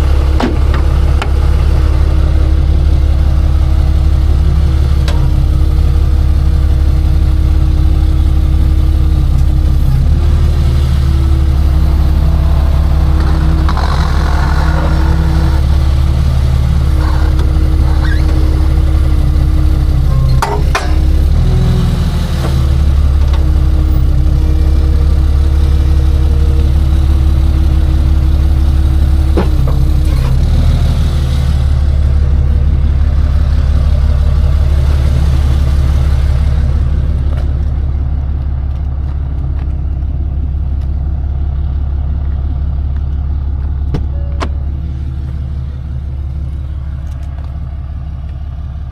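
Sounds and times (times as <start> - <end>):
truck engine droning: 0.0 - 48.9.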